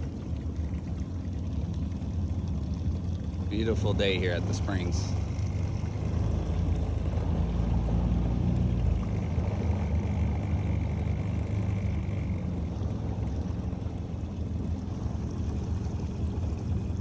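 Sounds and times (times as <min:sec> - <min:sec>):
motor low drone: 0:00.0 - 0:17.0.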